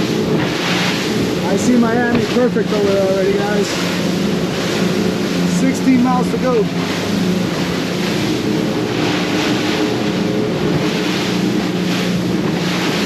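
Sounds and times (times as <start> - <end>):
outboard engines droning: 0.0 - 13.0
water rushing along hull: 0.0 - 13.0
wind: 0.0 - 13.0.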